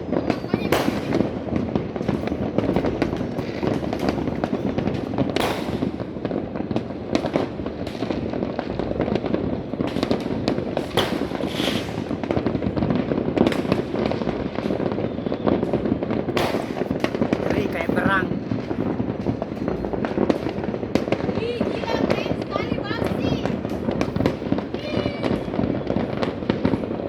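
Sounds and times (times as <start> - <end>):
firecracker bangs: 0.0 - 27.0
fireworks crackling: 0.0 - 27.0.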